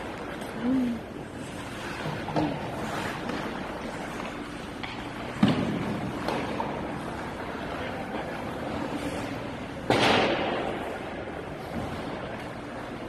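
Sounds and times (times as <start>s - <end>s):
skates scraping on ice: 1.2s - 13.0s.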